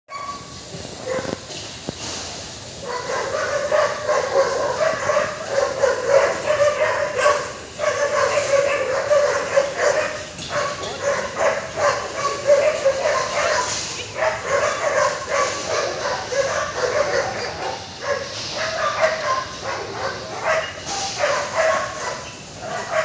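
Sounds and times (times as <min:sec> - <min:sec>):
dogs barking and whining: 0:00.1 - 0:01.5, 0:02.8 - 0:23.0.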